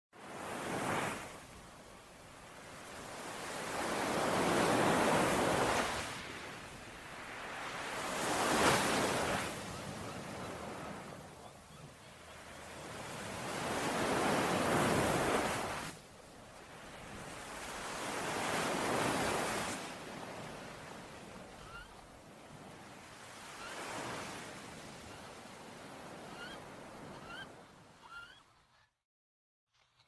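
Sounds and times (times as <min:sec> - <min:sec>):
ocean waves washing on shore: 0:00.2 - 0:27.8.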